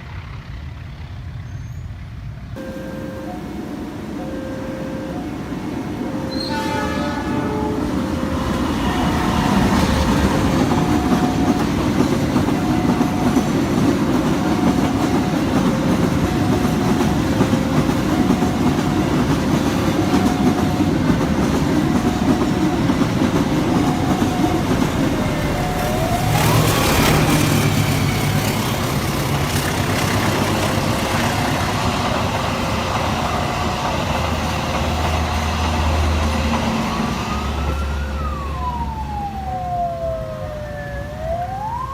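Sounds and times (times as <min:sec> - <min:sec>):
train wheels rumbling on rails: 0:00.0 - 0:41.9
rising whine: 0:02.6 - 0:29.4, 0:30.5 - 0:41.9
level-crossing warning alarm: 0:02.6 - 0:41.9.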